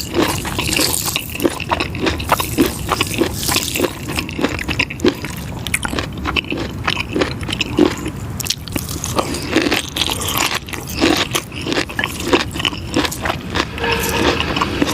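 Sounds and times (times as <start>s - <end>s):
crunchy chewing: 0.0s - 14.9s.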